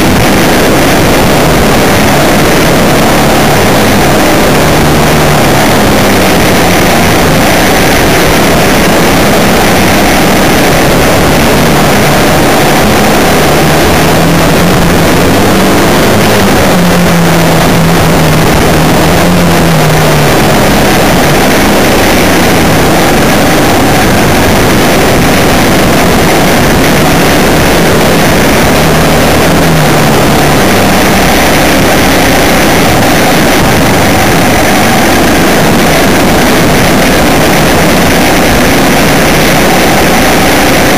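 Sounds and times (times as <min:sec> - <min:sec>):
vehicle engine hum: 0:00.0 - 0:40.9
wind and road noise on microphone: 0:00.0 - 0:40.9.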